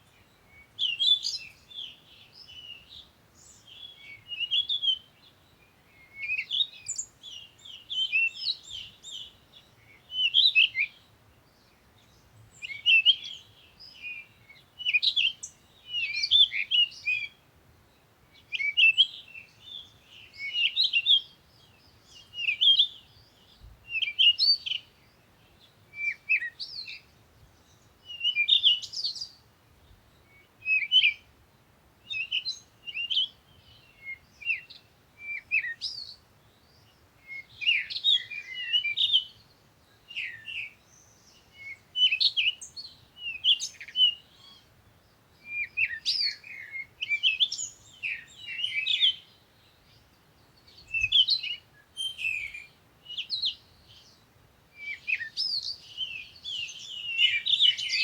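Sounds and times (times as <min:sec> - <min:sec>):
songbird chirping and warbling: 0:00.0 - 0:17.4, 0:18.0 - 0:31.3, 0:32.0 - 0:58.0.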